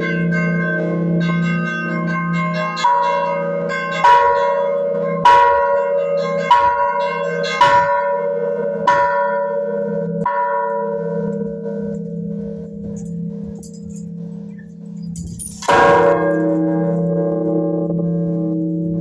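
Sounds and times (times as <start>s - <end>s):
large church bell ringing: 0.0s - 19.0s.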